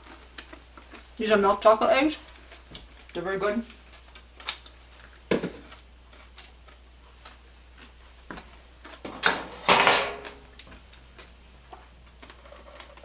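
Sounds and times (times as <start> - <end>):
crunching and chewing candy: 0.0 - 9.0, 10.6 - 13.0.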